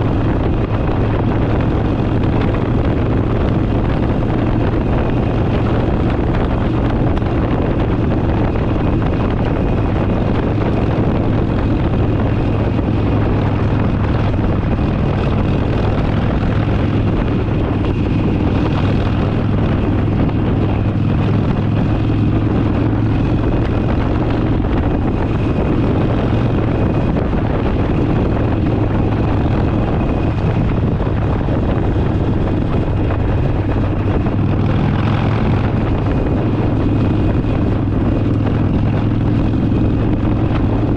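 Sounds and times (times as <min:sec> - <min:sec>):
motorcycle engine cruising: 0:00.0 - 0:40.9
road and wind rush: 0:00.0 - 0:40.9.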